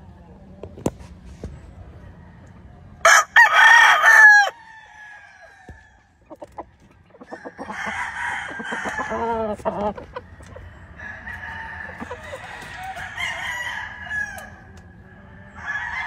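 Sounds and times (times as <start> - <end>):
chickens clucking: 0.0 - 3.2, 4.0 - 16.0
rooster crowing: 2.0 - 6.1, 7.2 - 16.0.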